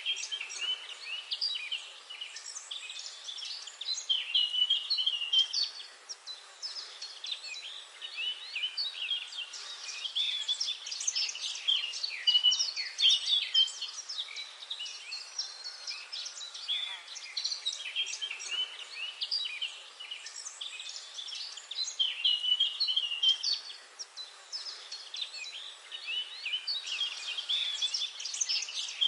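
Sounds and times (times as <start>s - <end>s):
faint background hiss: 0.0s - 29.0s
small birds chirping: 0.0s - 29.0s.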